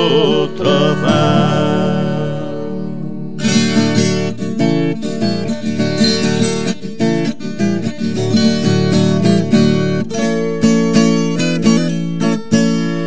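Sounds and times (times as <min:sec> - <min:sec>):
guitar strummed rhythmically: 0:00.0 - 0:13.0.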